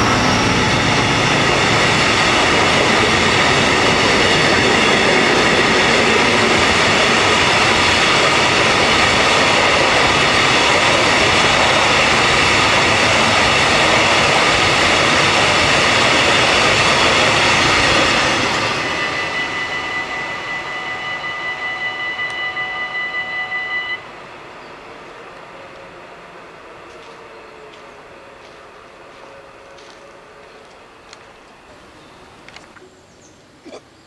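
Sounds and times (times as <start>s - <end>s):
freight train rumbling and rattling: 0.0s - 32.7s.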